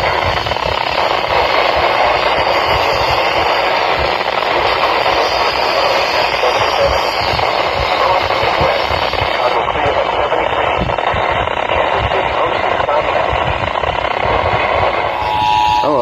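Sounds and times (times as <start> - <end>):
low crackles: 0.0 - 15.8
radio static hiss: 0.0 - 16.0.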